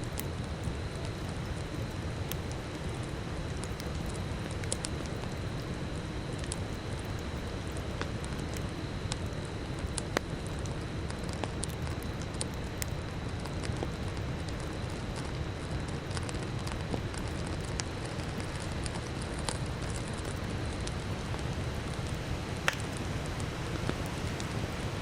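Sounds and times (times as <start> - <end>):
burning wood crackling: 0.0 - 25.0
low rush of flames: 0.0 - 25.0.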